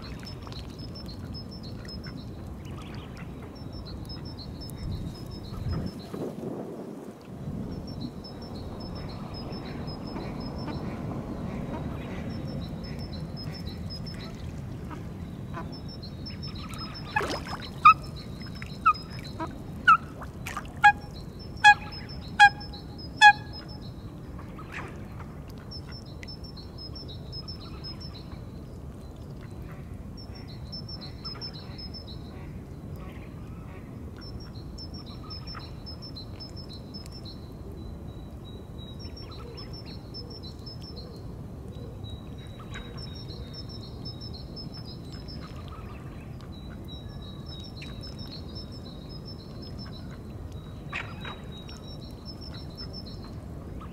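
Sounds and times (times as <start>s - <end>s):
waterbird calling: 0.0s - 6.2s, 7.7s - 41.2s, 41.8s - 53.9s
songbird singing: 0.0s - 6.4s, 7.4s - 29.2s, 30.2s - 53.9s
low wind-like rumble: 0.0s - 53.9s.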